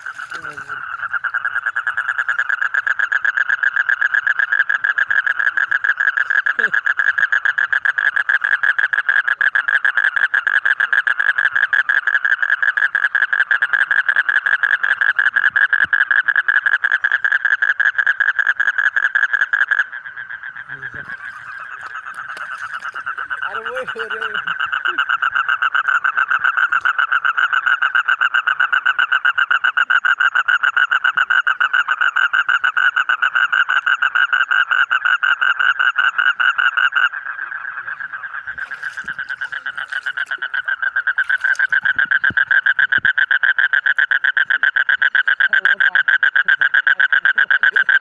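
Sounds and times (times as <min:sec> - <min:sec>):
faint toad trill: 0:00.0 - 0:48.0
toad trilling: 0:00.0 - 0:48.0.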